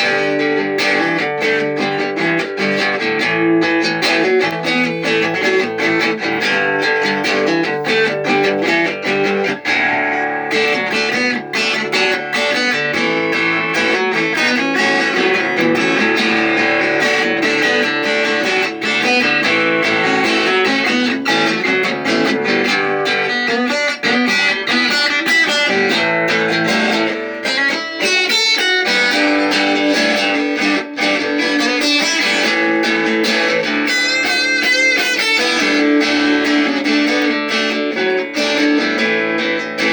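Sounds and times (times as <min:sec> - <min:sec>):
guitar music: 0:00.0 - 0:39.9.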